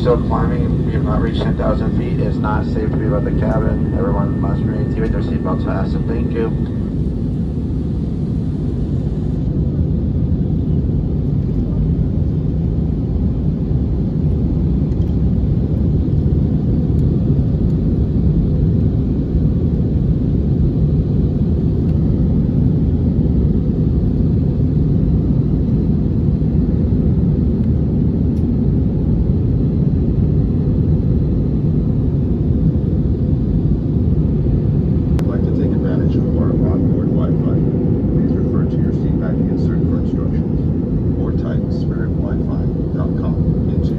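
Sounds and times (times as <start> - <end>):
jet airliner cabin noise: 0.0 - 43.9.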